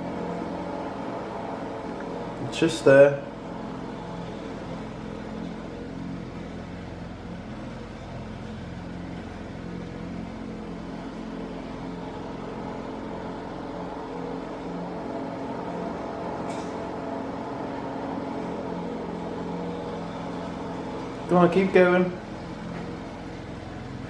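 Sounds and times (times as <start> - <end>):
mechanical hum with held tones: 0.0 - 24.0.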